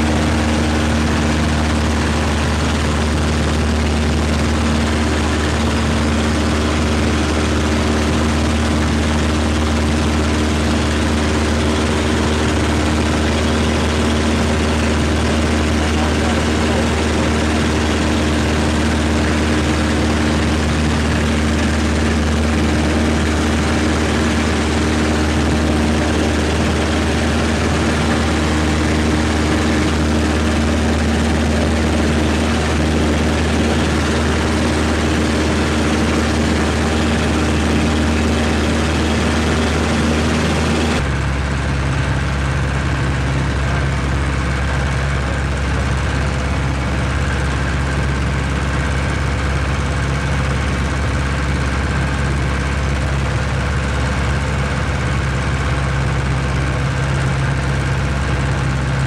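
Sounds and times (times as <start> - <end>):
light aircraft engine and propeller: 0.0 - 59.0.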